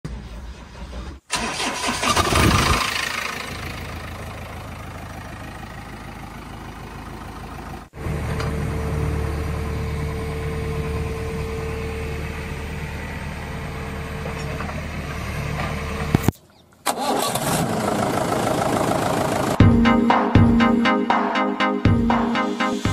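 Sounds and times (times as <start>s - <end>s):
engine humming with whine: 2.1s - 20.8s.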